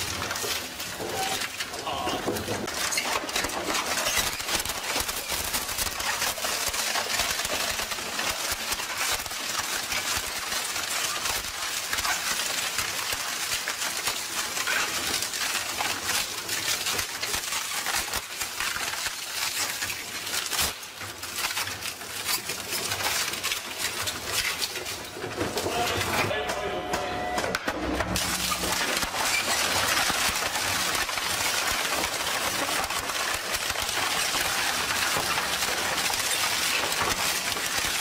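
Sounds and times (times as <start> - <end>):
shredder splintering wood: 0.0 - 38.0.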